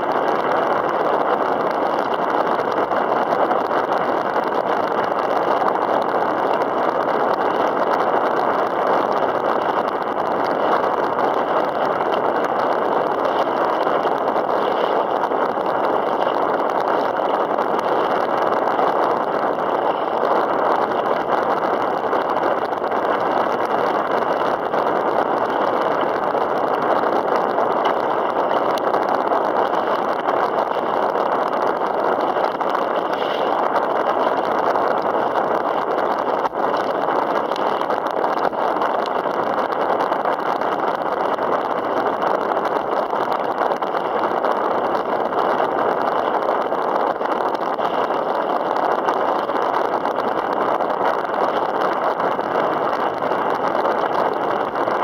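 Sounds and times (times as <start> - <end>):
choppy water around kayak: 0.0 - 55.0
wind rushing: 7.1 - 55.0.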